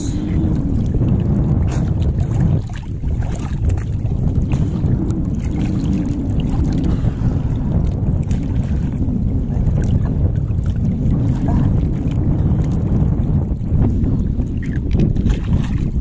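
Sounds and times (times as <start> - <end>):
water sloshing around waders: 0.0 - 16.0
wind on microphone: 0.0 - 16.0.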